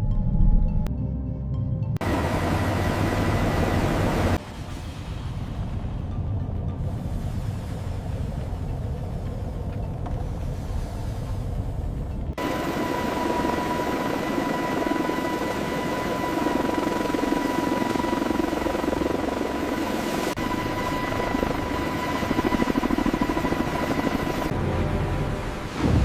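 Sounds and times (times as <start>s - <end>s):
mechanical drone with high whine: 0.0s - 26.0s.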